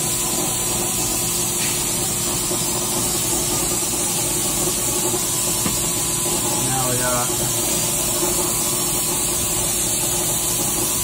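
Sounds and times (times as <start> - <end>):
fluid spraying hiss: 0.0 - 11.0
machine hum: 0.0 - 11.0.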